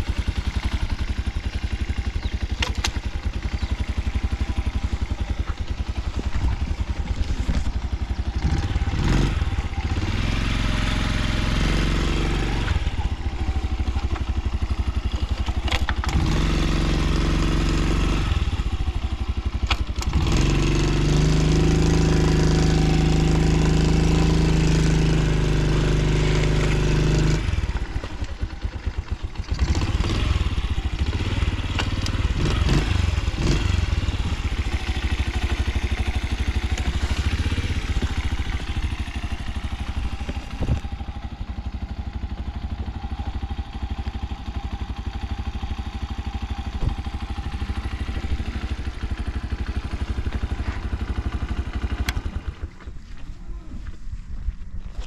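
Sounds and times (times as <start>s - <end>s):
small engine idling and revving: 0.0s - 55.0s.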